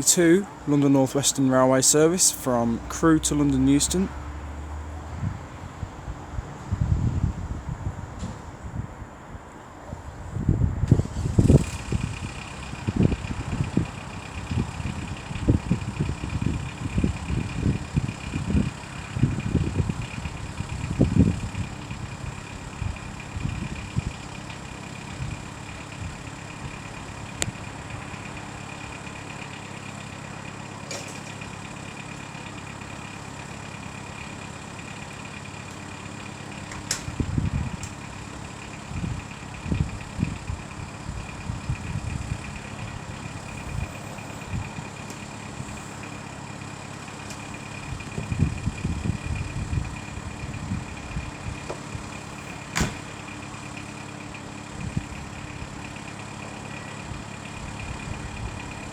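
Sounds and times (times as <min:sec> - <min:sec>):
electric train electrical hum: 0:10.1 - 0:58.9.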